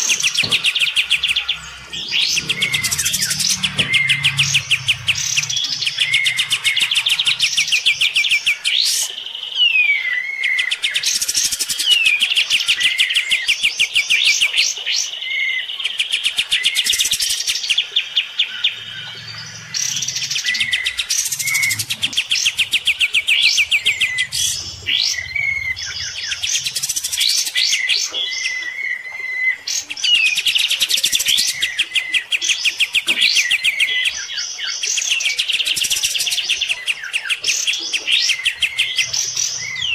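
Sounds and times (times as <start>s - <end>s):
songbird singing trilled phrases: 0.0s - 39.9s.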